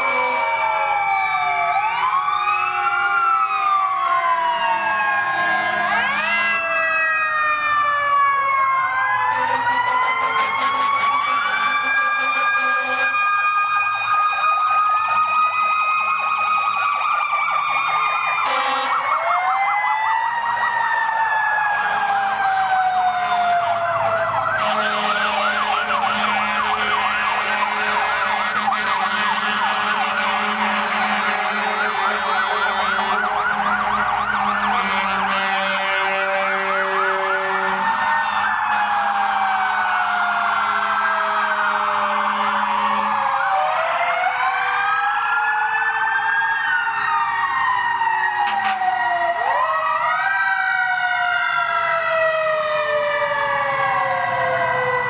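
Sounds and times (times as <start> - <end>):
fire truck sirens wailing: 0.0 - 55.0
siren yelp: 0.0 - 55.0
truck engines running: 0.0 - 55.0.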